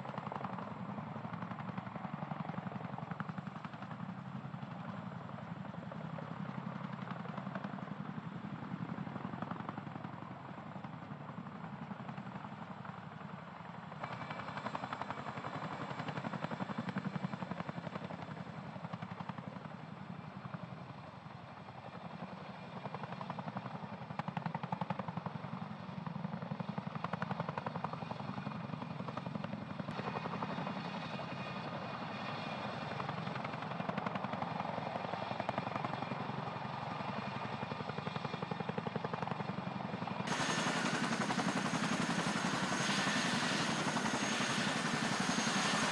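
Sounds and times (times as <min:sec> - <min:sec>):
helicopter rotor and turbine noise: 0:00.0 - 0:45.9.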